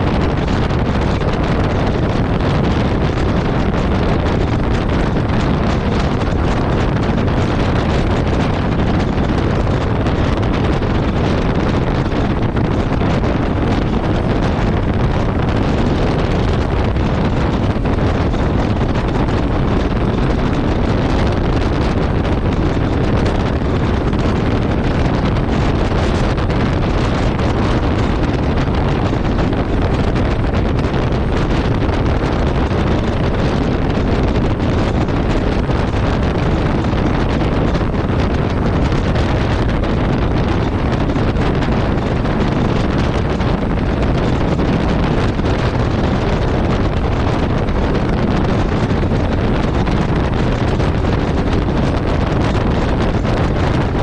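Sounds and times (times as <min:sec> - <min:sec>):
road noise: 0:00.0 - 0:54.0
wind rushing over microphone: 0:00.0 - 0:54.0.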